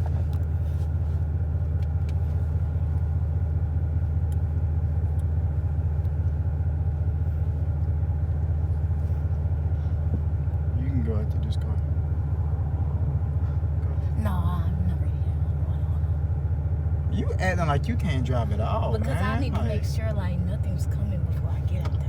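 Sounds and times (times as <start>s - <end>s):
car engine rumbling at low revs: 0.0s - 22.0s.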